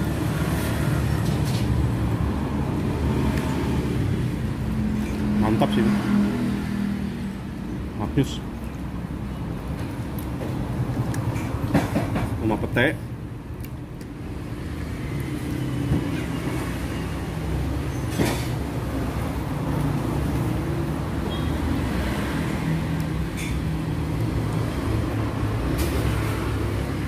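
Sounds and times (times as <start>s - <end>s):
engine running nearby: 0.0s - 27.0s
low rumble of motor traffic: 0.0s - 27.0s.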